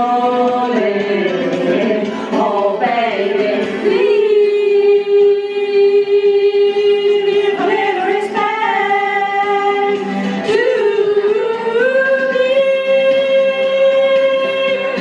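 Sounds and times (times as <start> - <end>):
women singing karaoke: 0.0 - 15.0.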